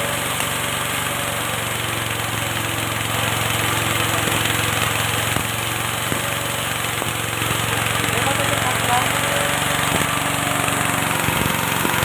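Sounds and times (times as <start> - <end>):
grass-chopping machine running: 0.0 - 12.0.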